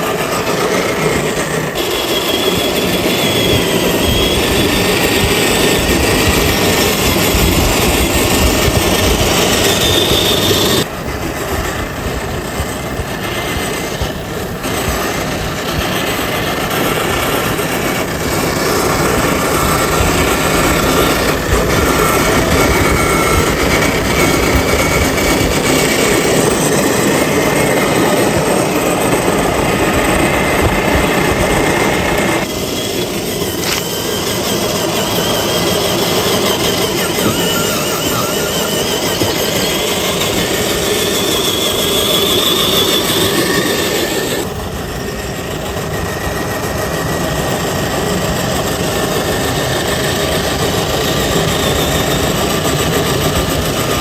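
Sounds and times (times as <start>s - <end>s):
toy car electric motor whining: 0.0s - 54.0s.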